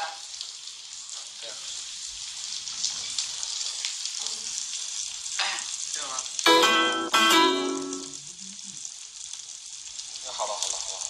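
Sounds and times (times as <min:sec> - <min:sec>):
food sizzling on hot griddle: 0:00.0 - 0:11.0.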